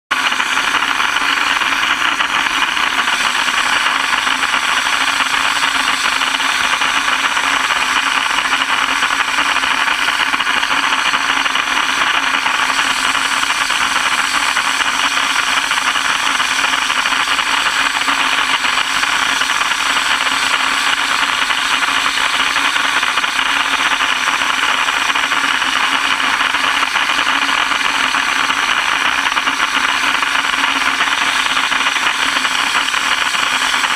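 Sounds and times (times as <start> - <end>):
dry ice blaster hissing: 0.1 - 33.9.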